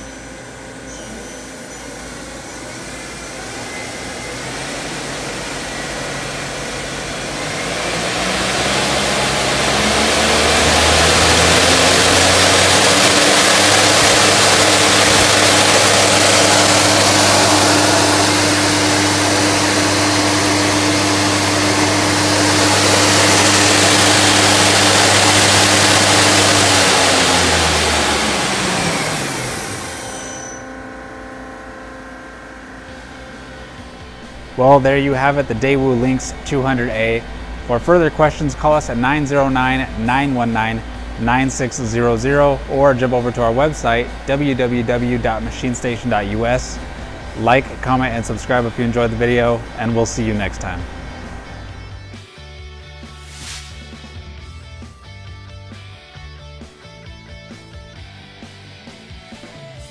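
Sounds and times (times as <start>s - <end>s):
lathe spindle motor whine: 0.0s - 52.3s.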